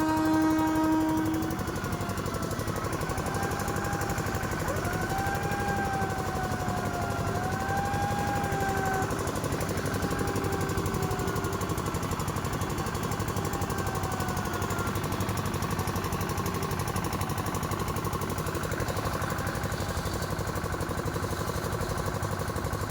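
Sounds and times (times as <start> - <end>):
machinery engine running: 0.0 - 22.9.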